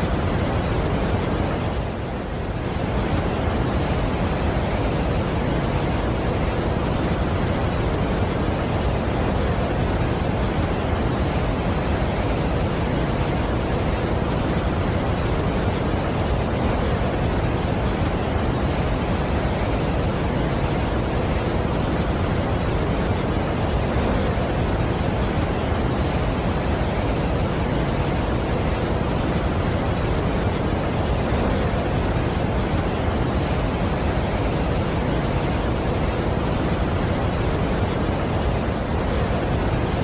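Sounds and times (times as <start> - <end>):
large waterfall rushing: 0.0 - 40.0.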